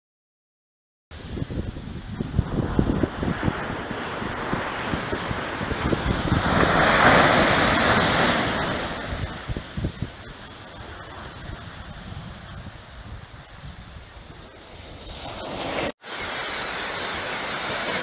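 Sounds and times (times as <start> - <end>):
wind buffeting microphone: 1.1 - 15.6
ocean surf breaking: 1.2 - 18.0.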